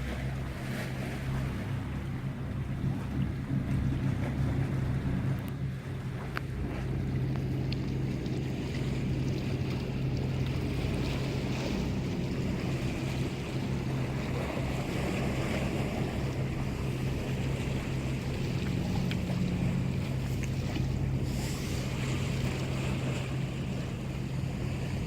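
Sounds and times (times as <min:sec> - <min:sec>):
boat engine humming: 0:00.0 - 0:25.0
sea noise: 0:00.0 - 0:25.0
wind: 0:00.0 - 0:25.0.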